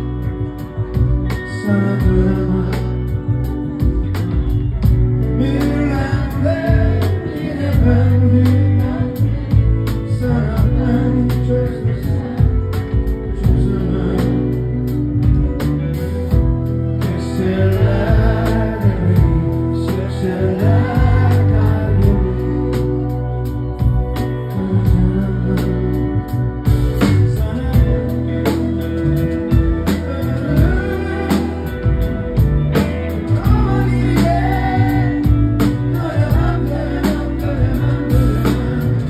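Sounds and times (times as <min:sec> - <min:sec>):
steady drum beat: 0:00.0 - 0:23.1, 0:23.7 - 0:25.8, 0:26.6 - 0:39.0
live band playing: 0:00.0 - 0:39.0
person singing: 0:00.0 - 0:39.0.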